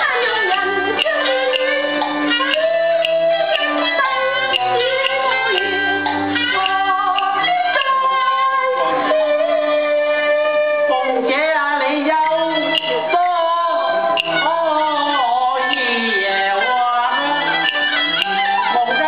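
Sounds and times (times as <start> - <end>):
traditional instruments playing: 0.0 - 11.3, 12.0 - 19.0
woman singing opera: 0.0 - 19.0.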